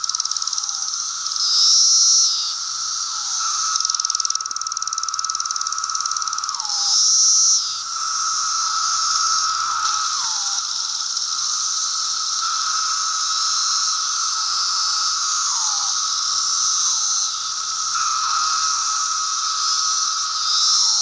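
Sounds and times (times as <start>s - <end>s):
cicadas droning chorus: 0.0s - 21.0s.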